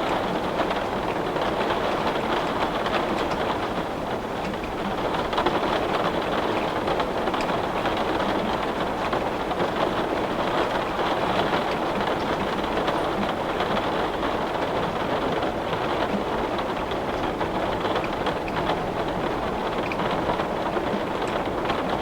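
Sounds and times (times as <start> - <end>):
heavy rain on window glass: 0.0 - 22.0.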